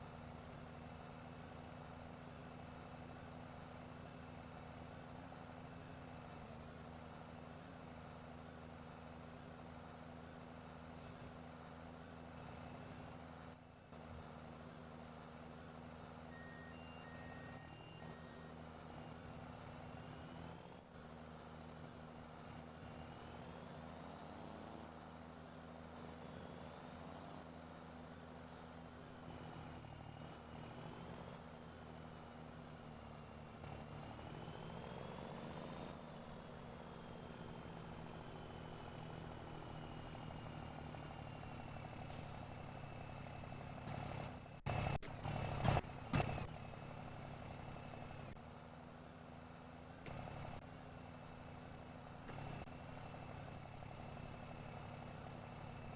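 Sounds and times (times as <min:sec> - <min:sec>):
truck engine running: 0:00.1 - 0:55.9.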